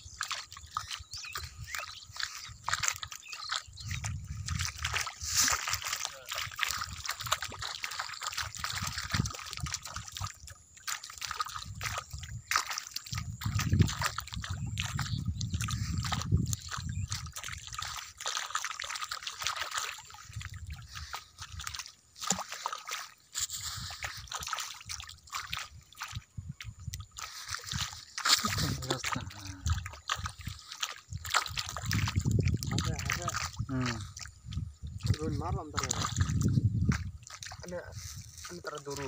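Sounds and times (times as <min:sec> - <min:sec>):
shallow water sloshing and splashing: 0:00.0 - 0:39.0.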